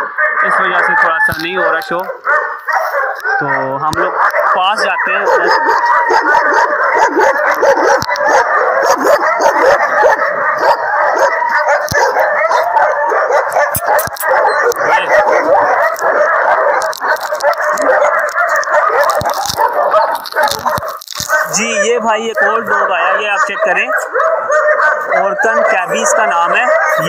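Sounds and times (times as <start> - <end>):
many dogs barking and yelping: 0.0 - 27.0.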